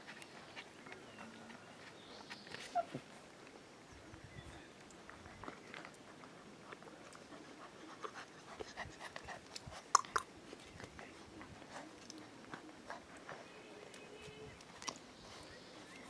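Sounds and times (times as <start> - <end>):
paws clicking on paving: 0.0 - 3.6, 4.6 - 16.0.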